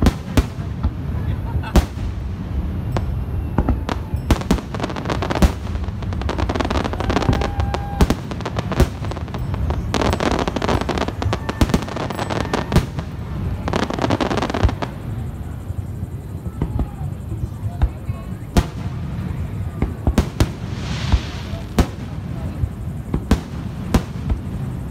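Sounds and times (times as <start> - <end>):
fireworks bursting with sharp bangs: 0.0 - 24.9
fireworks crackling: 0.0 - 24.9.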